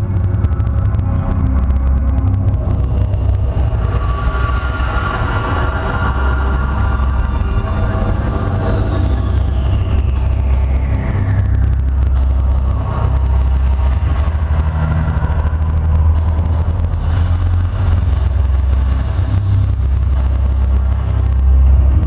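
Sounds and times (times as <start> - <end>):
deep rumble over loudspeakers: 0.0 - 22.0.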